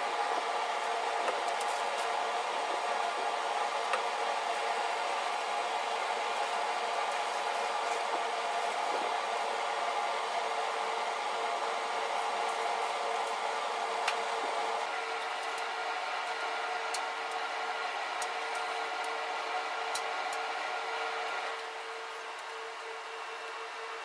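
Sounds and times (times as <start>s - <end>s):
small blower whining: 0.0s - 24.0s.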